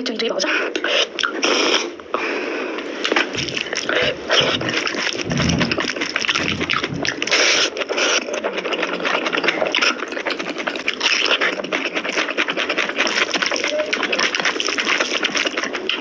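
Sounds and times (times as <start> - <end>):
wet chewing and slurping: 3.0 - 16.0.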